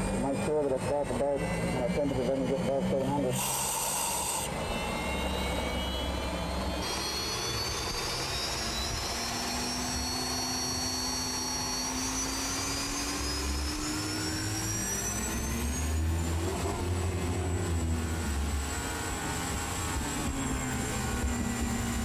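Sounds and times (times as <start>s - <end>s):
low engine rumble: 0.0s - 22.0s
turbine engine whine rising: 0.0s - 22.0s.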